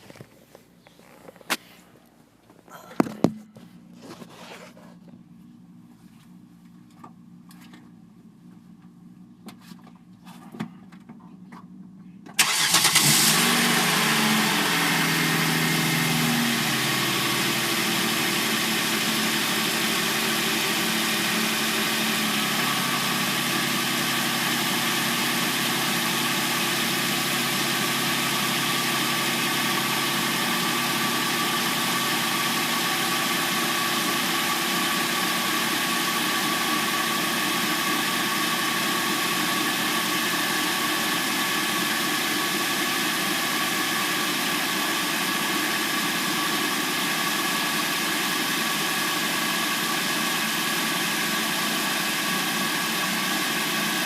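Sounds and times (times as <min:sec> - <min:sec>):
car engine starting and idling: 0:05.2 - 0:54.0.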